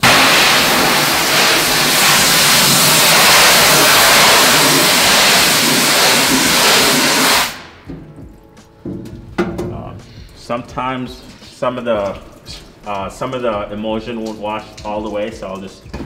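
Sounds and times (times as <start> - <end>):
hose nozzle spraying water: 0.0 - 16.0.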